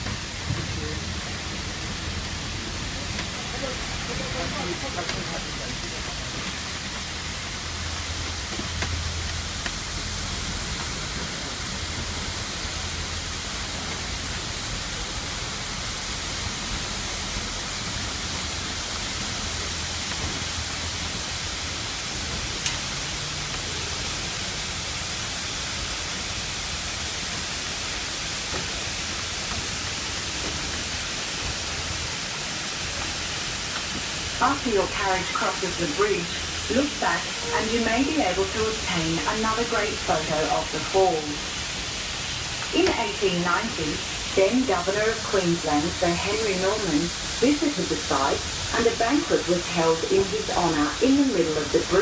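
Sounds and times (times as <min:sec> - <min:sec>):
train rushing in motion: 0:00.0 - 0:52.0.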